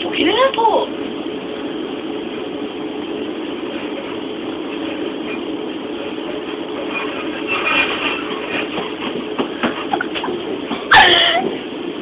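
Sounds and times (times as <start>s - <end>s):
train rumbling in motion: 0.0s - 12.0s.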